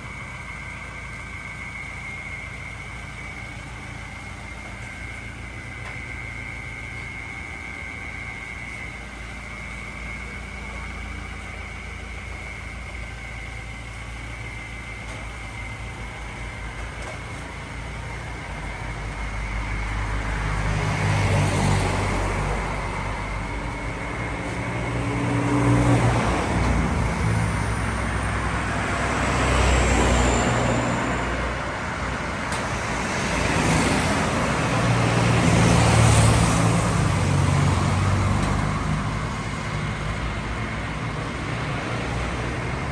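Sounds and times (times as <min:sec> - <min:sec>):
vehicles passing: 0:00.0 - 0:42.9.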